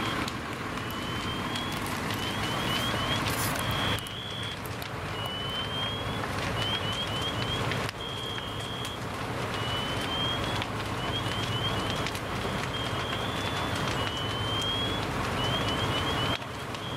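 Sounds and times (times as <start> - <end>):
fire crackling and popping: 0.0 - 16.9
fire engine idling hum: 0.0 - 16.9.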